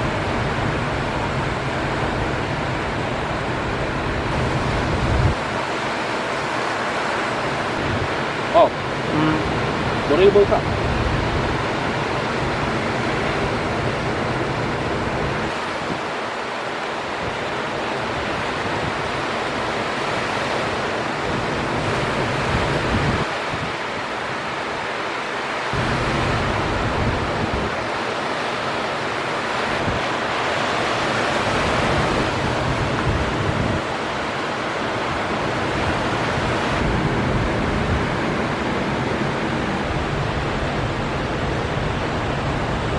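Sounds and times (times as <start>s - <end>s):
wind rumbling on microphone: 0.0s - 25.0s, 25.6s - 42.9s
ocean surf breaking: 0.0s - 42.9s.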